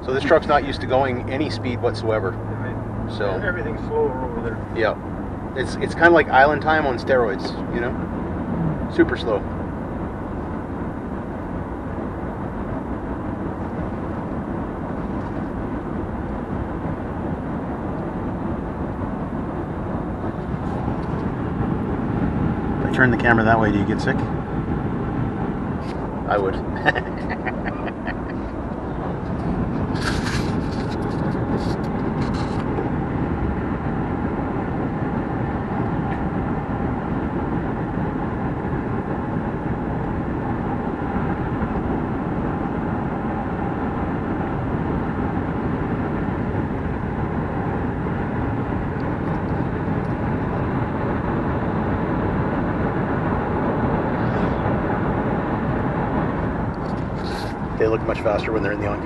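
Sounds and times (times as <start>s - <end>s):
engine drone: 0.0s - 59.0s
tyres on asphalt: 0.0s - 59.0s.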